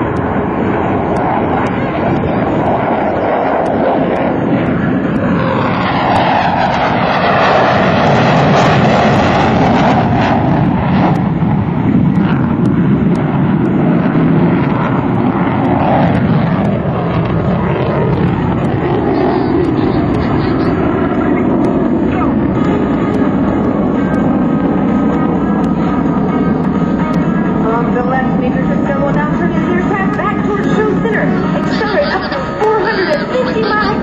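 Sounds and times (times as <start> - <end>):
jet flying overhead: 0.0 - 34.0.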